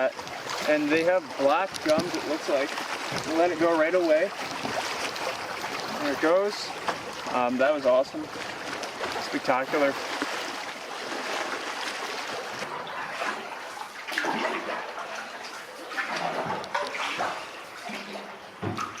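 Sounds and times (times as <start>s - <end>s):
water splashing and trickling: 0.0s - 19.0s.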